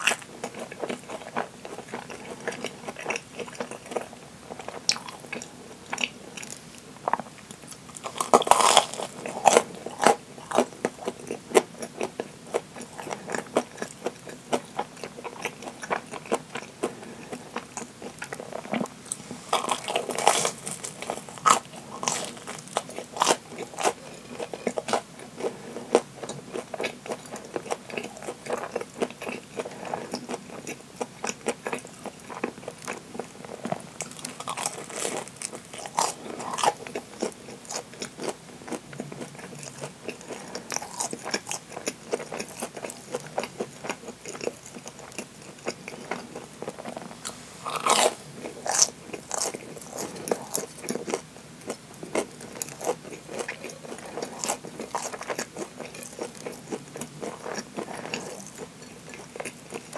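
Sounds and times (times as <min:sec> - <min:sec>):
crunching crispy bread: 0:07.2 - 0:14.6, 0:15.8 - 0:59.9.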